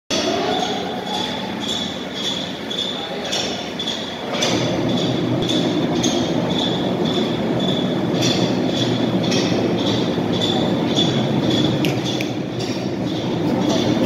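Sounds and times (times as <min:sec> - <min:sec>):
punching machine clatter: 0:00.1 - 0:14.0
pulsing high ringing tone: 0:00.2 - 0:14.0.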